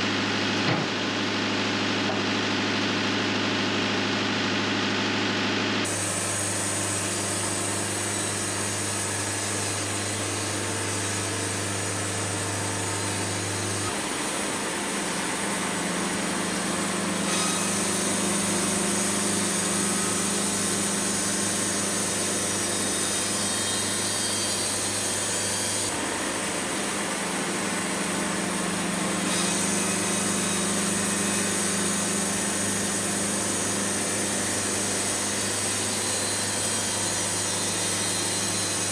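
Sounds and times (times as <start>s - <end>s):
machinery humming: 0.0s - 37.8s.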